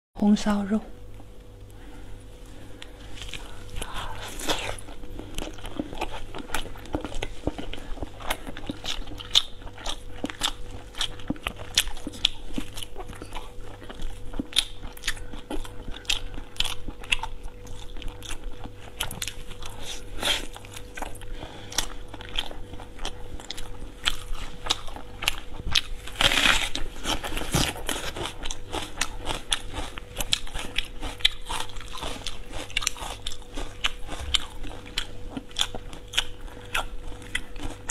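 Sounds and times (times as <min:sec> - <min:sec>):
person chewing: 0:01.6 - 0:37.9.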